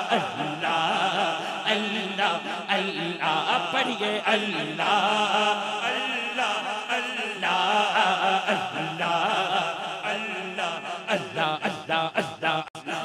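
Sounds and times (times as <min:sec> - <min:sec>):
men chanting over loudspeaker: 0:00.0 - 0:13.0.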